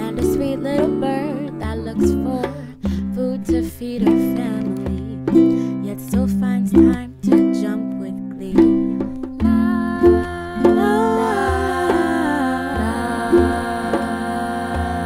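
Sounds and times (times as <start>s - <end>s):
wavering lead melody: 0.0s - 5.5s, 6.8s - 15.0s
plucked string chords: 0.0s - 15.0s.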